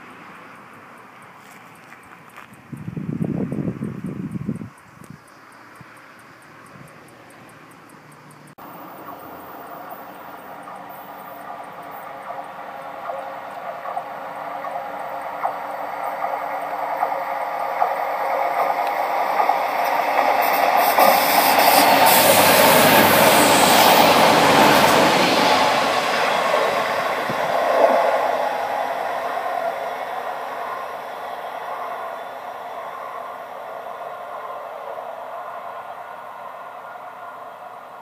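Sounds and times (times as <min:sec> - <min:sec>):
train passing: 0:05.5 - 0:38.0
wheels on rails: 0:06.5 - 0:38.0.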